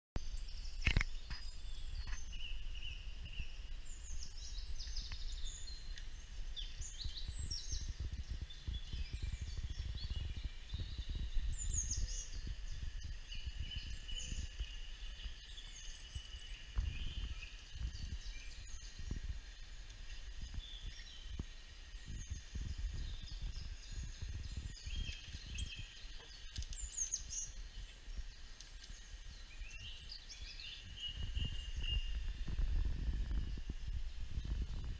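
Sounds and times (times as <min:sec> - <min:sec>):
steady low rumble: 0:00.2 - 0:34.9
birds chirping through speakers: 0:00.3 - 0:34.9.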